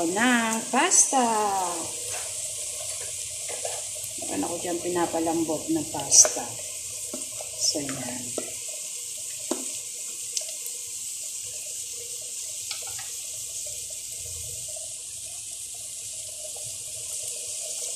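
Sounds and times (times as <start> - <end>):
water boiling in a pot: 0.0 - 17.9.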